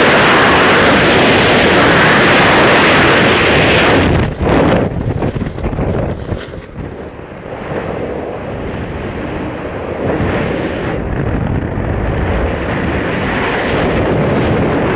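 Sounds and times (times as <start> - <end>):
wind rushing over microphone: 0.0 - 14.9.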